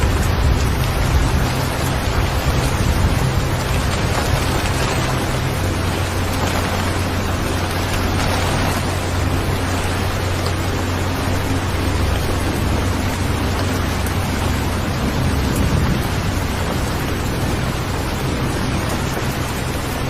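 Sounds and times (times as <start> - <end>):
falling rain: 0.0 - 20.0
low steady hum: 0.0 - 20.0.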